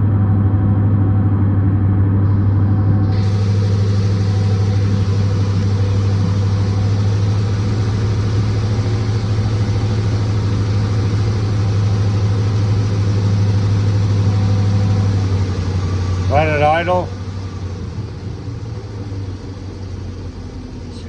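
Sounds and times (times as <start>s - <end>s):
engine running above idle: 0.0s - 21.0s.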